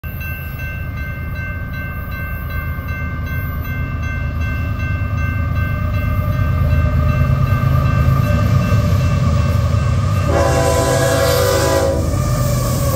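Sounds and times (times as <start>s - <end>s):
crossing warning bell ringing: 0.0s - 12.9s
freight train rumbling: 0.0s - 12.9s.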